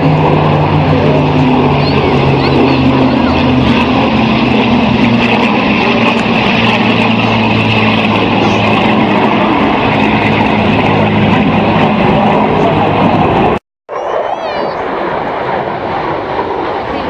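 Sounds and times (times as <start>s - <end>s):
aircraft engine drone: 0.0s - 17.0s.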